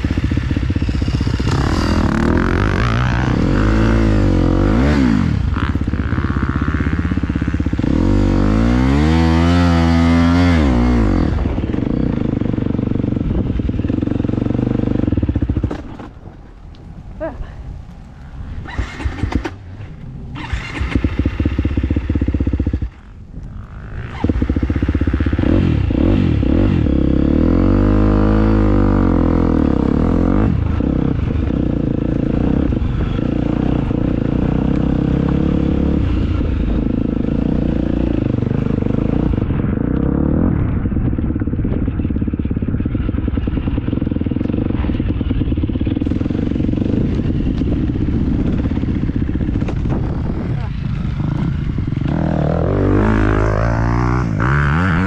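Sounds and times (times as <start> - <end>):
dirt bike engine revving: 0.0 - 16.1, 18.6 - 55.0.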